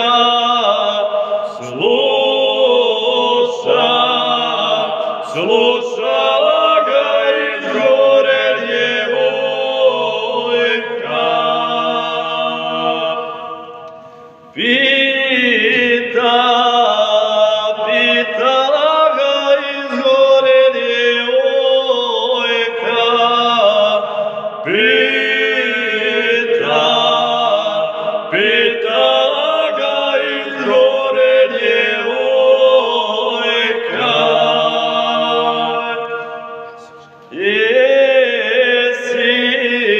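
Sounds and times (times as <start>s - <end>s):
two men singing unaccompanied: 0.0s - 13.5s, 14.5s - 39.9s.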